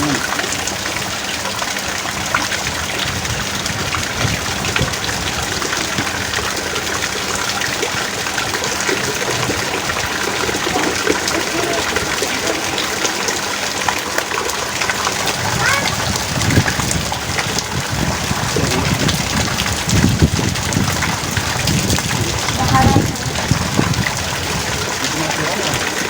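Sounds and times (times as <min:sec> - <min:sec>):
heavy rain pouring: 0:00.0 - 0:26.0
raindrops splashing: 0:00.0 - 0:26.0.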